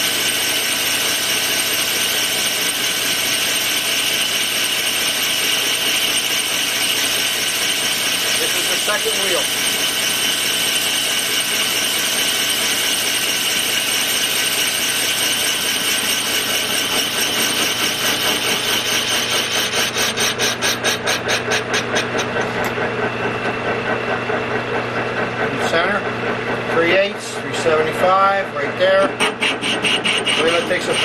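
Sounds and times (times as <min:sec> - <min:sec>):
metal lathe tool scraping: 0:00.0 - 0:22.8, 0:25.2 - 0:31.0
lathe running: 0:00.0 - 0:31.0.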